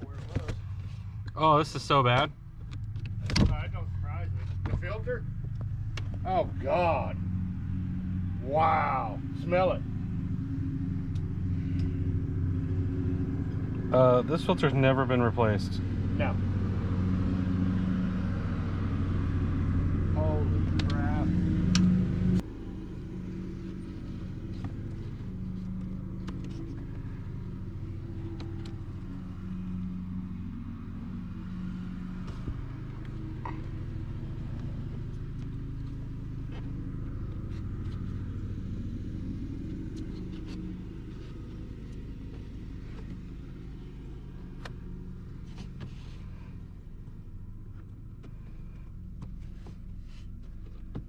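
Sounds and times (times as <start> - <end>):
low mechanical hum: 2.3 - 51.0.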